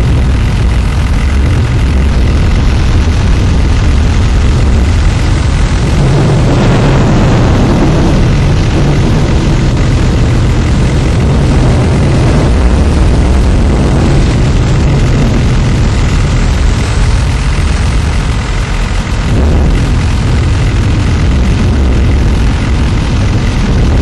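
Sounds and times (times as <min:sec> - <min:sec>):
deep rumble: 0:00.0 - 0:24.0
roaring wind: 0:00.0 - 0:24.0.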